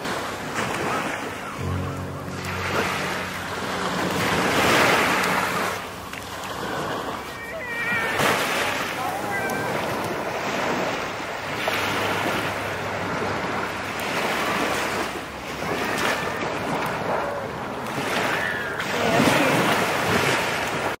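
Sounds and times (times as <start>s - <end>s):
small waves washing onto shore: 0.0s - 21.0s.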